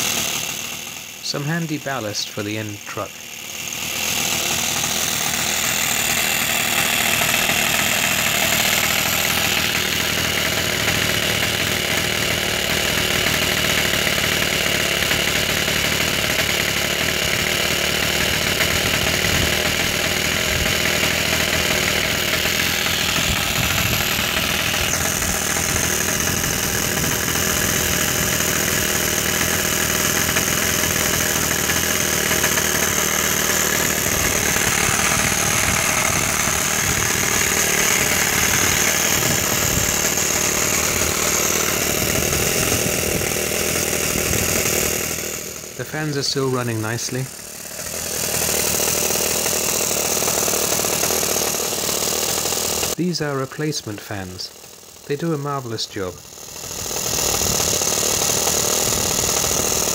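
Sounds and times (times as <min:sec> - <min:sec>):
model engine running: 0:00.0 - 0:59.9.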